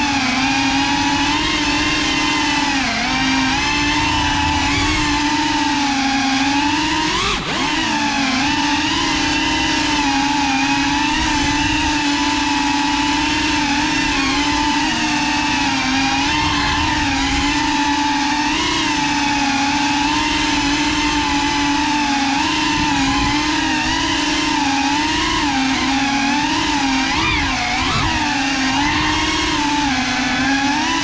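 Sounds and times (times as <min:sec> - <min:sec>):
drone propellers whining: 0:00.0 - 0:31.0.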